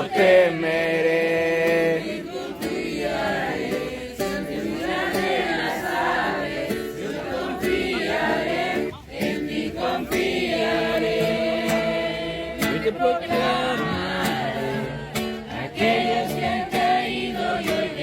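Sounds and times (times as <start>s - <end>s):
group singing in unison: 0.0s - 18.0s.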